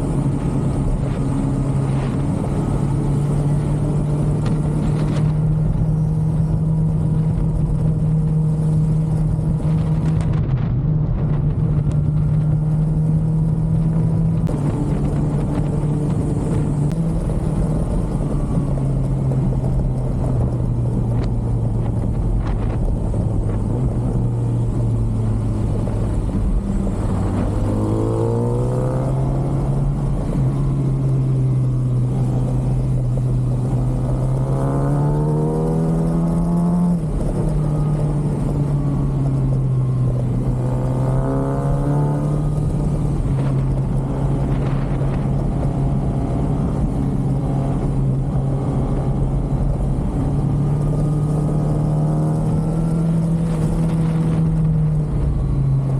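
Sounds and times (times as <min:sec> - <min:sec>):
motorcycle engine accelerating: 0:00.0 - 0:55.9
wind noise: 0:00.0 - 0:55.9.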